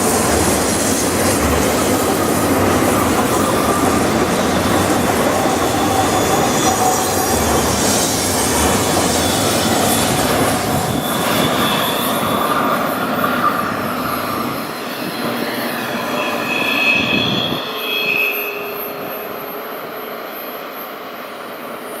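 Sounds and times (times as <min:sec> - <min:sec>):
freight cars rolling on rails: 0:00.0 - 0:20.4
high-pitched wheel squeal: 0:02.8 - 0:21.2.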